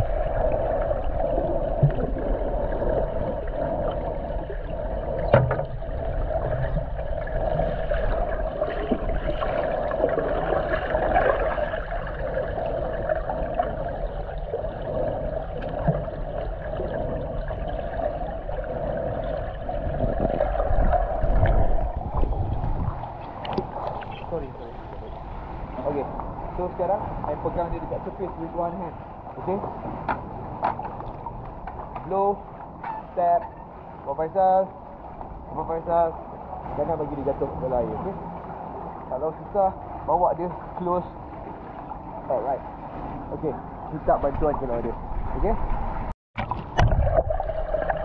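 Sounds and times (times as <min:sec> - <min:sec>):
underwater hum: 0:00.0 - 0:48.0
water churning: 0:00.0 - 0:48.0
water rumble and bubbling: 0:00.0 - 0:48.0.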